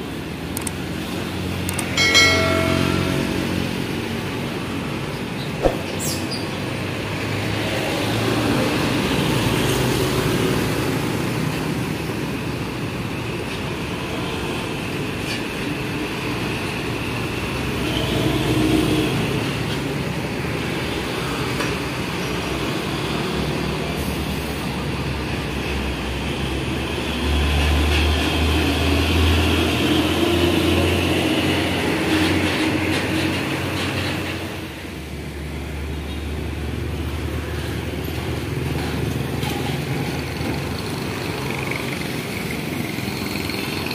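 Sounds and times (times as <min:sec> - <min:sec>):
trucks and motorcycles passing: 0:00.0 - 0:43.9.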